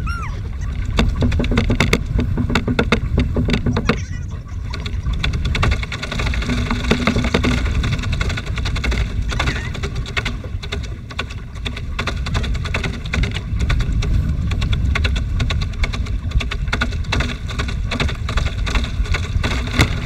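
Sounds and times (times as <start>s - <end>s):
water lapping against hull: 0.0s - 20.0s
wind rumbling on microphone: 0.0s - 20.0s
sharp clicks and knocks: 0.6s - 20.0s.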